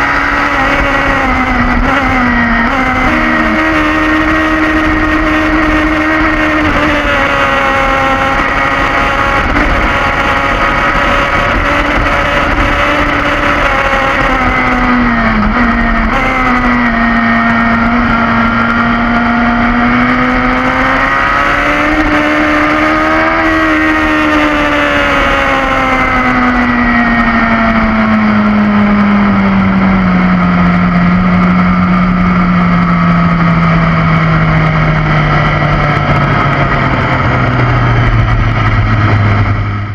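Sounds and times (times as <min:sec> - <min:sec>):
wind rush: 0:00.0 - 0:31.1, 0:31.7 - 0:39.9
motorcycle engine running: 0:00.0 - 0:39.9.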